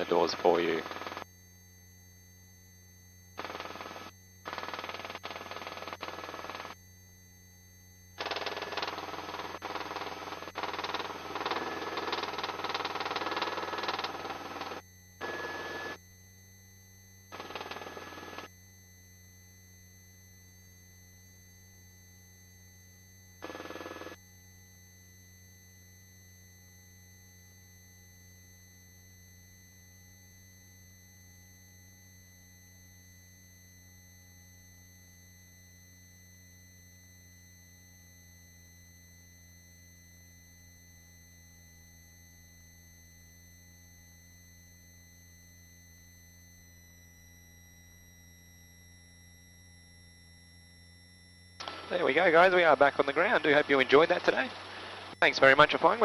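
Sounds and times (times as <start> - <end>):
electronic hum of fixed tones: 0.0 - 56.0.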